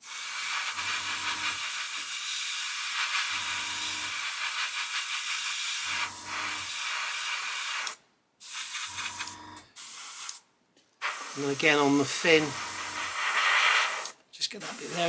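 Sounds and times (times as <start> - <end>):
airbrush spraying hiss: 0.0 - 3.4, 4.1 - 10.4, 11.0 - 15.0.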